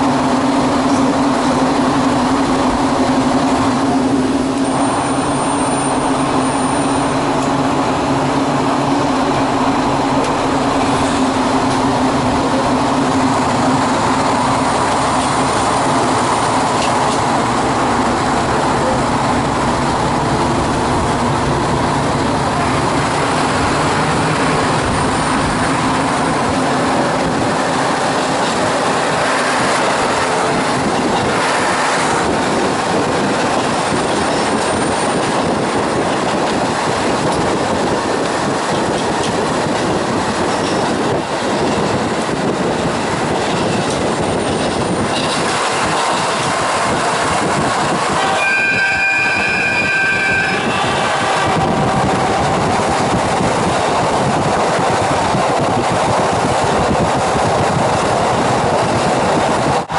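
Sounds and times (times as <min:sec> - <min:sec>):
train engine and wheels on rails: 0:00.0 - 0:59.9.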